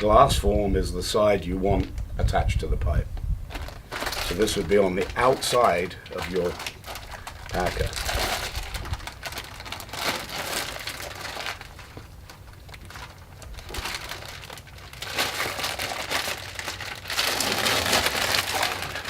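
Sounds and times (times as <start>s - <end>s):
plastic film crinkling: 3.2s - 19.0s.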